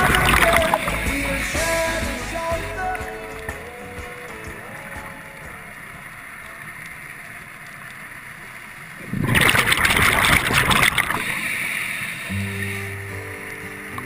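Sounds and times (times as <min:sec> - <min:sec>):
underwater bubbling: 0:00.0 - 0:01.5, 0:02.7 - 0:14.0.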